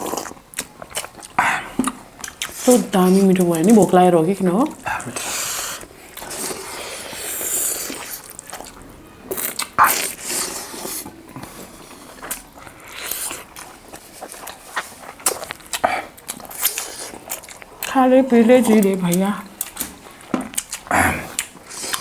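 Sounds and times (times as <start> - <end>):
biting and wet chewing: 0.0 - 22.0.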